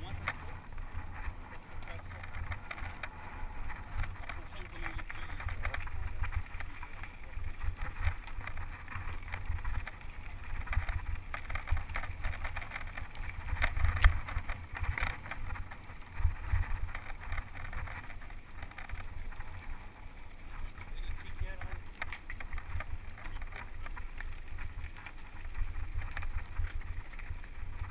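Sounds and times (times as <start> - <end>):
bike knocking and rattling: 0.0 - 27.9
tyres crunching over gravel: 0.0 - 27.9
wind buffeting microphone: 0.0 - 27.9.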